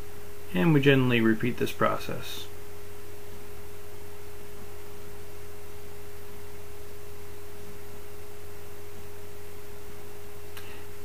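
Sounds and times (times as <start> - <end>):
steady pure tone: 0.0 - 11.0.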